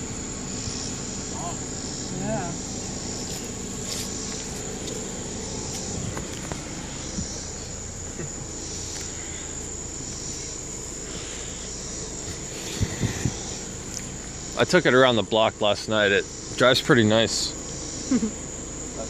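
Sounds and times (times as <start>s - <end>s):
crickets chirping: 0.0s - 19.0s
low steady hum: 0.0s - 19.0s.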